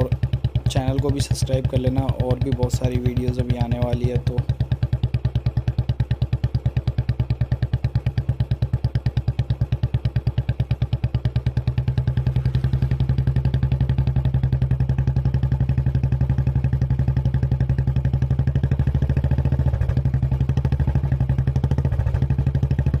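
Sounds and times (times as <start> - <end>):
single-cylinder motorcycle engine thumping: 0.0 - 23.0.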